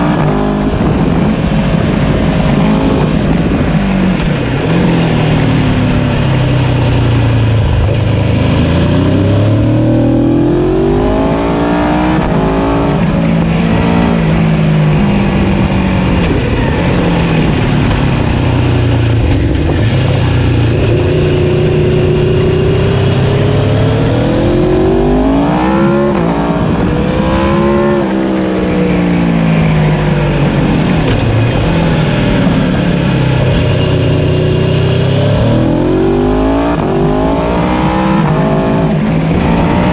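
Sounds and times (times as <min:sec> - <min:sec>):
motorcycle engine revving: 0:00.0 - 0:39.9
wind and tyre rush: 0:00.0 - 0:39.9.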